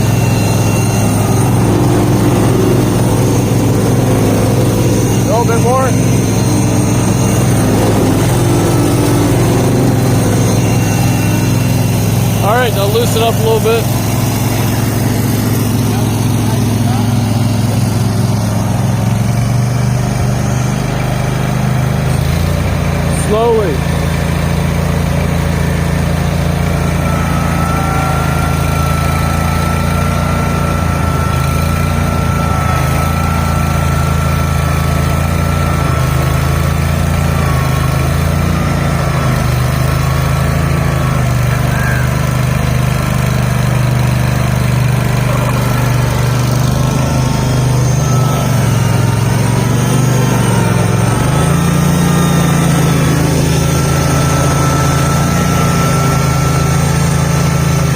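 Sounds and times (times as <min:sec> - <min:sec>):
garden tractor engines under load: 0:00.0 - 0:57.9.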